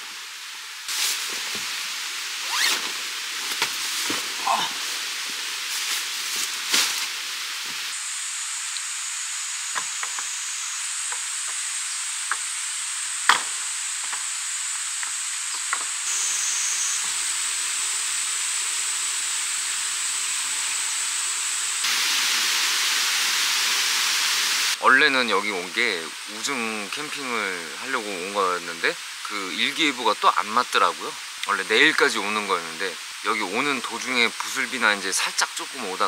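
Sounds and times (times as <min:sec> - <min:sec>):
steady high hiss: 0:00.0 - 0:36.0.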